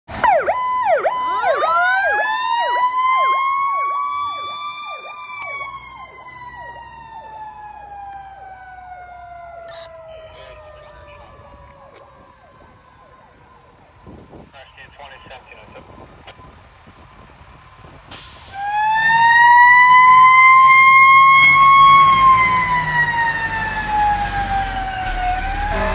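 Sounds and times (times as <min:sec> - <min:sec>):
electronic siren yelping: 0:00.2 - 0:13.7, 0:18.6 - 0:25.9.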